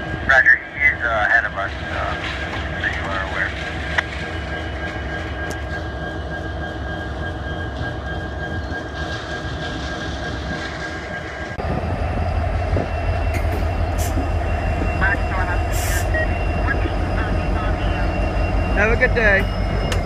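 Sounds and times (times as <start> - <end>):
locomotive engine rumble: 0.0 - 20.0.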